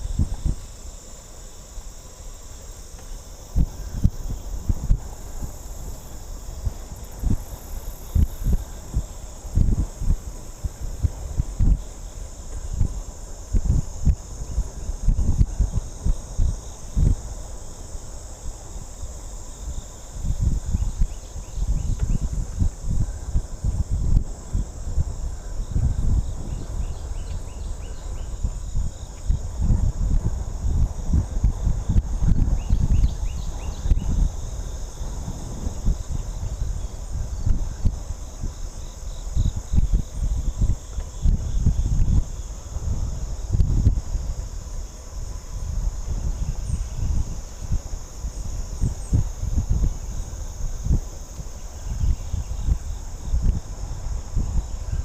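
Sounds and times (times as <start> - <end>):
insects chorus: 0.0 - 55.0
wind rumbling on microphone: 0.0 - 55.0.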